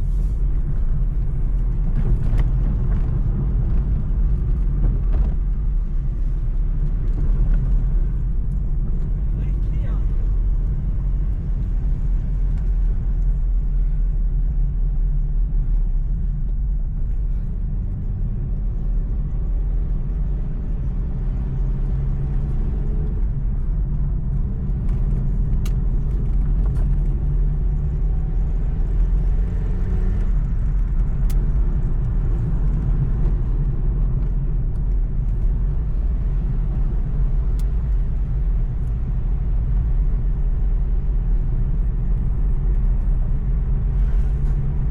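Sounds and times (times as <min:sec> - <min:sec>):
moving vehicle rumble: 0:00.0 - 0:44.9.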